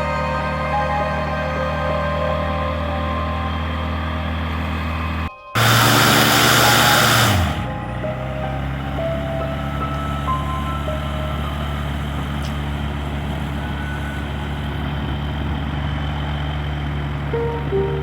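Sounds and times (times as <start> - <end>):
light aircraft engine drone: 0.6 - 18.0.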